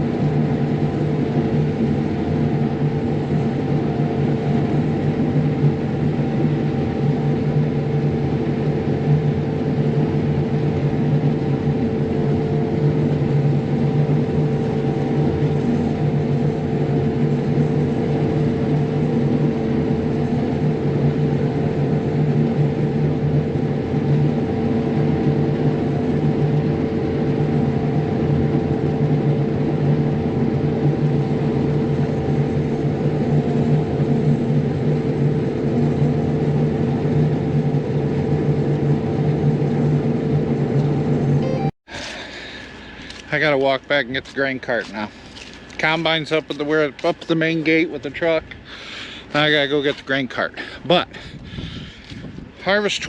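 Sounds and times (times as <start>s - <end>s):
combine harvester droning: 0.0s - 27.7s, 38.1s - 53.0s.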